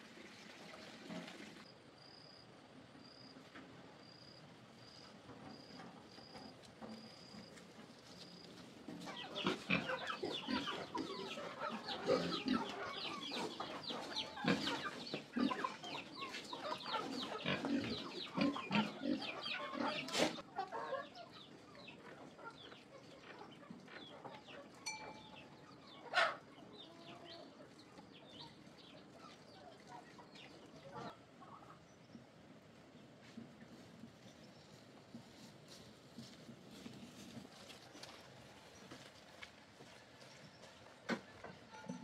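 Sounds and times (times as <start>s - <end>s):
chickens clucking: 5.0s - 42.0s.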